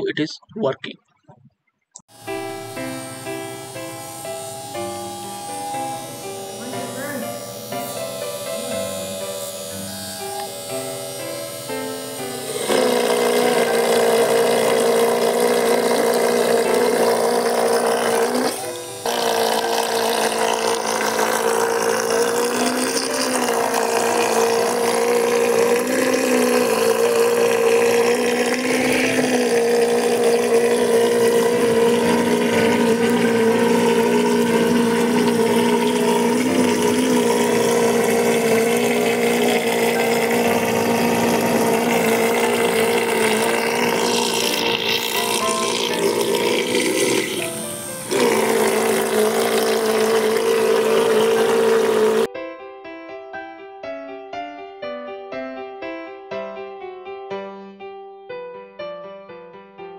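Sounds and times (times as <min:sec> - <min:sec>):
water pump motor whining: 0:02.0 - 0:52.3.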